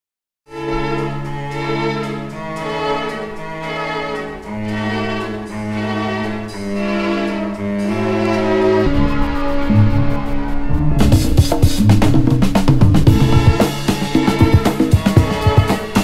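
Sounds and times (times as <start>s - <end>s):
bowed strings sustained chords: 0.5s - 15.4s.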